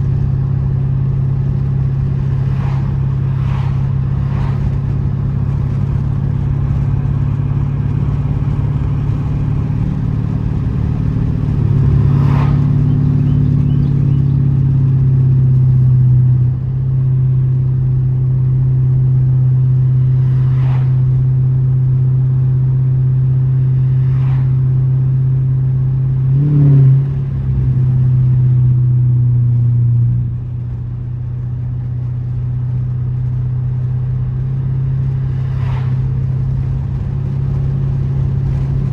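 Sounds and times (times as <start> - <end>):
car engine revving: 0.0 - 38.9
car exhaust drone: 0.0 - 38.9.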